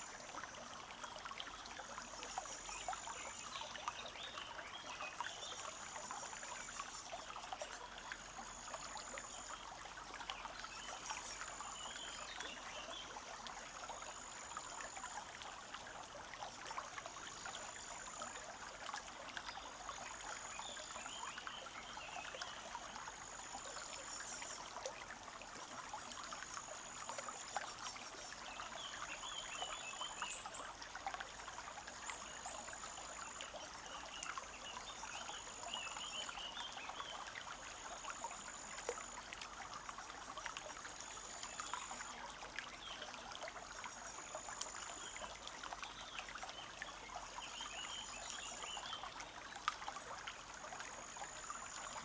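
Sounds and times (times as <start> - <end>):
stream babbling over stones: 0.0 - 52.0.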